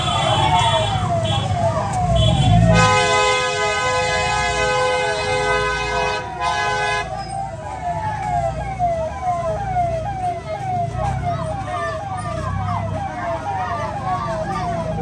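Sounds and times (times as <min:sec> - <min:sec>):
engine and traffic rumble: 0:00.0 - 0:15.0.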